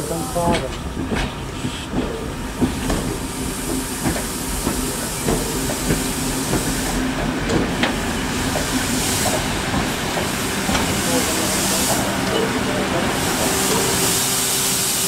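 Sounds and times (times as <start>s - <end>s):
steam locomotive rolling past: 0.0s - 15.0s
steam hissing: 1.3s - 15.0s.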